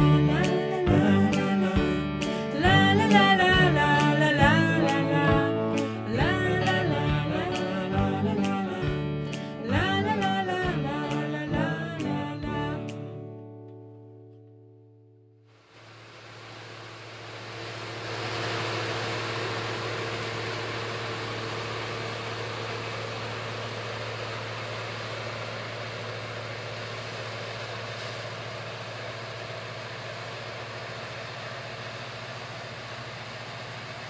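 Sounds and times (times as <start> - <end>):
combine harvester running: 0.0 - 13.1, 15.6 - 34.0.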